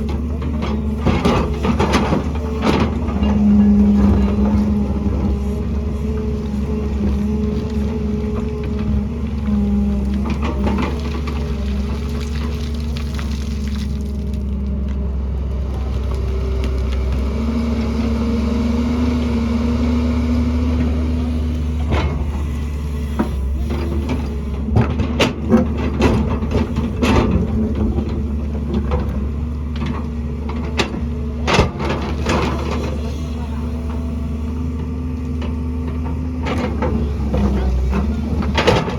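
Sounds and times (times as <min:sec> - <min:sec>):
diesel excavator running: 0:00.0 - 0:38.9.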